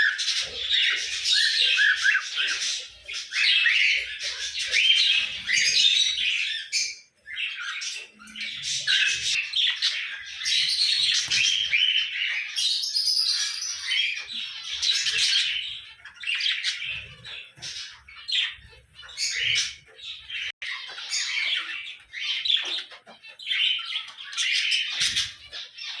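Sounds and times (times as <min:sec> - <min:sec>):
cockatiels calling: 0:00.0 - 0:26.0.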